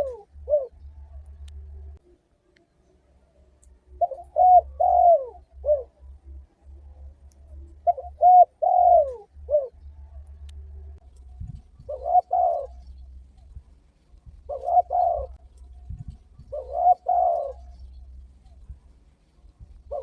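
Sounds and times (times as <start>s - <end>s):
dove cooing: 0.0s - 2.0s, 3.8s - 20.0s.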